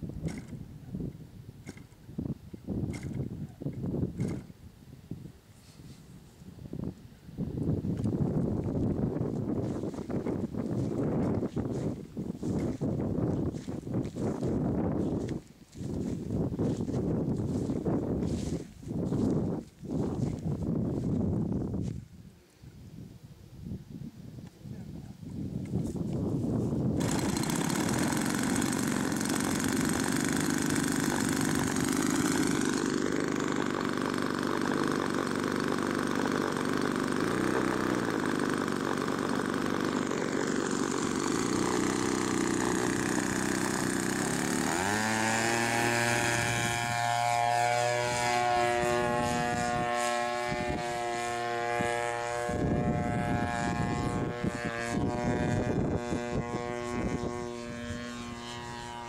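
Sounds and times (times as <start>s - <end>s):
two-stroke engine driving propeller: 0.1s - 0.7s, 1.6s - 2.1s, 2.9s - 4.6s, 7.8s - 22.0s, 25.8s - 59.0s.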